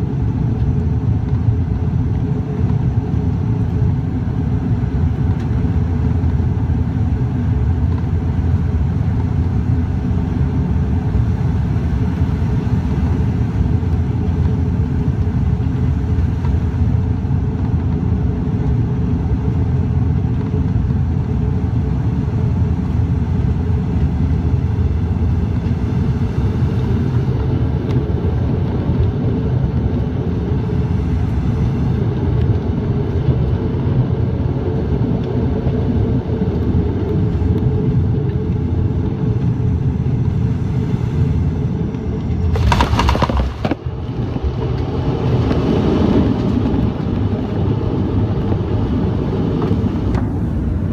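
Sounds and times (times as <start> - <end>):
airliner engines droning: 0.0 - 50.9
rushing roll along runway: 0.0 - 50.9.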